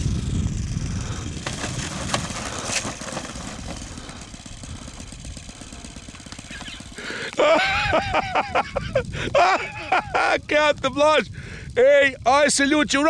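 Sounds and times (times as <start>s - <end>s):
model airplane engine idling: 0.0s - 13.0s.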